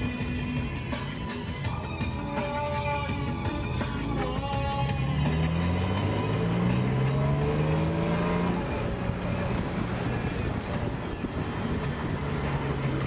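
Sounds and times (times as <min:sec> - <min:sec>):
road and wind noise: 0:00.0 - 0:13.0
car engine revving: 0:02.2 - 0:13.0.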